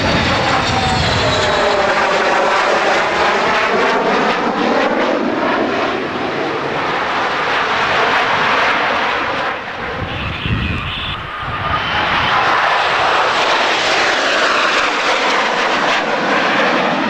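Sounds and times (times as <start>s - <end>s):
jet roar flying past: 0.0s - 17.0s.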